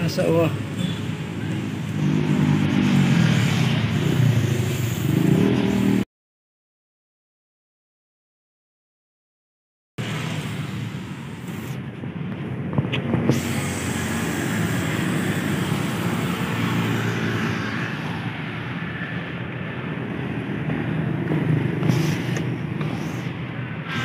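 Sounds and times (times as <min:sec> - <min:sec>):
road traffic rumble: 0:00.0 - 0:06.1, 0:10.0 - 0:24.0.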